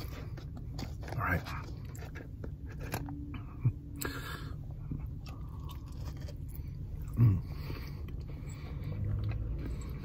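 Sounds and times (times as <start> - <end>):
chewing food: 0.0 - 10.0.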